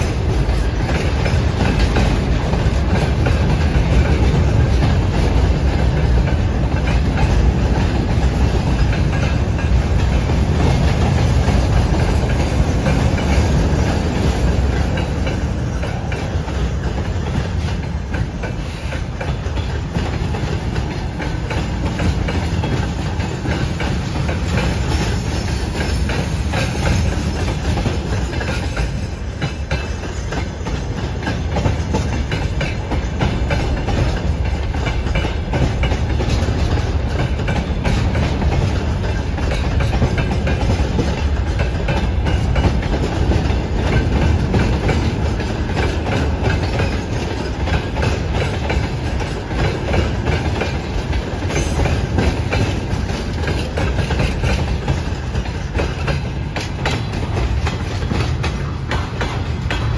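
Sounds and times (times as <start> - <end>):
train wheels rumbling on rails: 0.0 - 59.9
wheels clicking over rail joints: 0.0 - 59.9.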